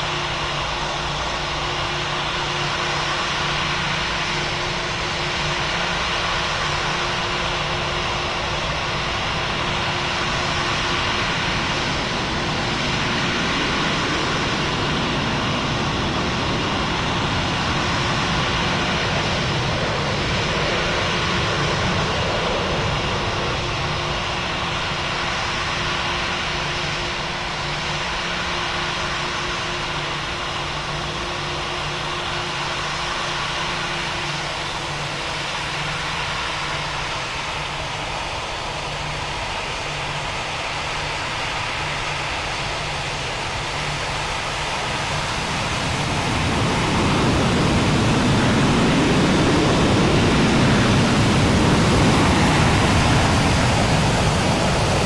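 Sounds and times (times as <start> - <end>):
airplane passing: 1.4 - 36.1, 41.8 - 55.0.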